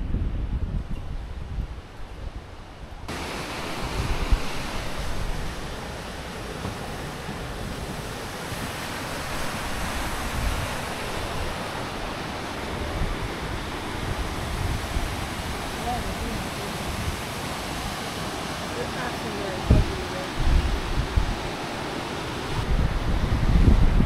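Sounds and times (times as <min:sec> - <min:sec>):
flowing water rushing: 0:01.3 - 0:24.0.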